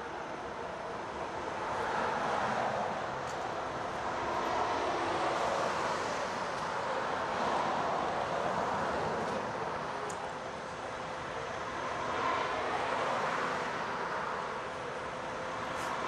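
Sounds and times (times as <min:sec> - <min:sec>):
freeway traffic noise: 0:00.0 - 0:16.0.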